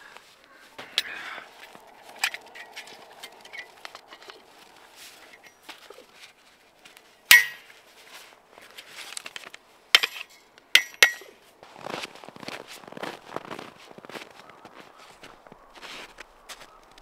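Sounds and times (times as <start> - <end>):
footsteps crunching in snow: 0.0 - 9.8, 11.4 - 17.0.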